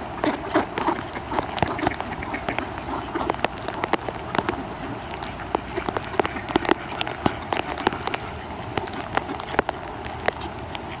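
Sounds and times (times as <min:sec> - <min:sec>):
rain hissing: 0:00.0 - 0:11.0
sharp rain taps: 0:00.0 - 0:11.0.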